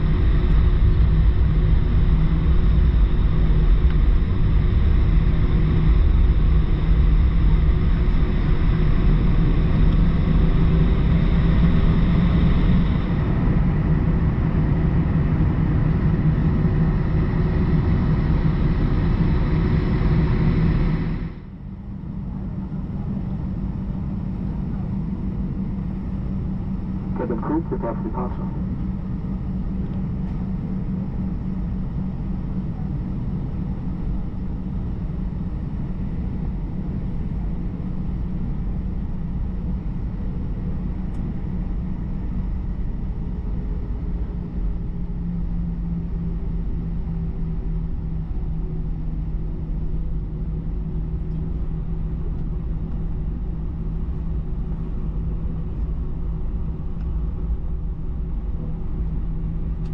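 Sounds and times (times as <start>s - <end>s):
faint engine hum: 0.0s - 59.9s
jet engines rumbling in cabin: 0.0s - 59.9s.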